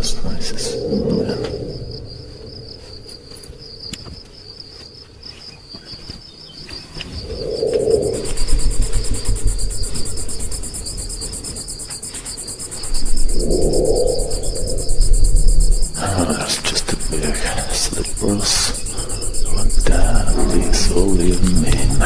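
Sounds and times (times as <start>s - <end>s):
low rumble: 0.0s - 4.6s, 7.3s - 22.0s
crickets chirping: 0.0s - 22.0s
high insect trill: 0.0s - 22.0s.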